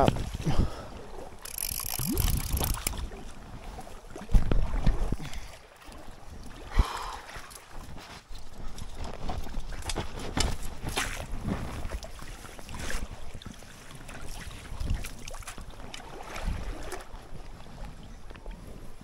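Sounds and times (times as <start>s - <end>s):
wind rumble on microphone: 0.0s - 1.0s, 1.9s - 5.4s, 7.6s - 19.0s
water splashing in a stream: 0.0s - 18.4s.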